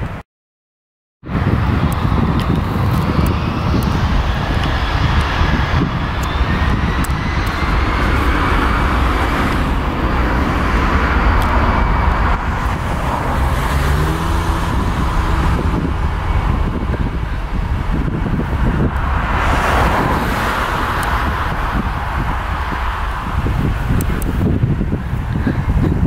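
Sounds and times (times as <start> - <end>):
jet engines rushing: 1.2 - 26.0
faint jet engine whine: 1.3 - 26.0.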